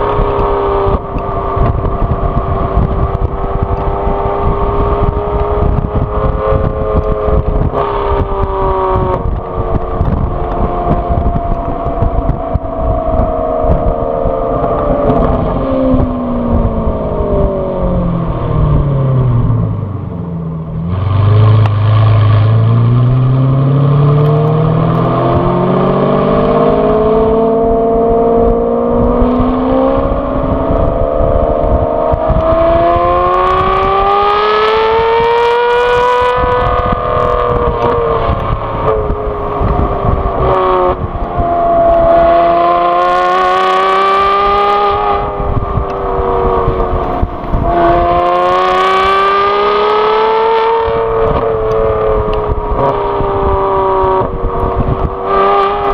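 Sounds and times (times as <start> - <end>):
car engine exhaust revving: 0.0 - 55.9.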